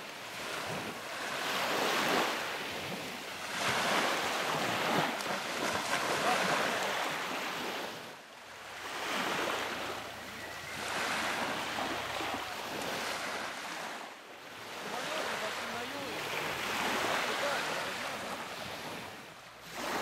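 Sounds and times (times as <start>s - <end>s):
sea waves breaking on a beach: 0.0s - 20.0s.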